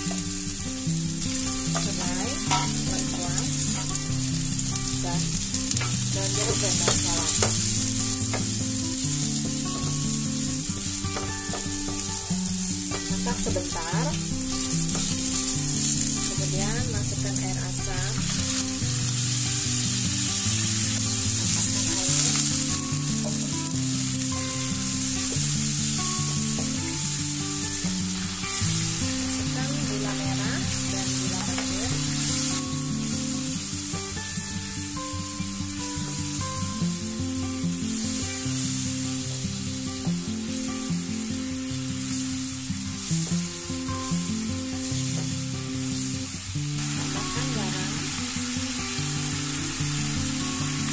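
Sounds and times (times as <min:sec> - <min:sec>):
paste sizzling in oil: 0:00.0 - 0:50.9
soft instrumental music: 0:00.0 - 0:50.9.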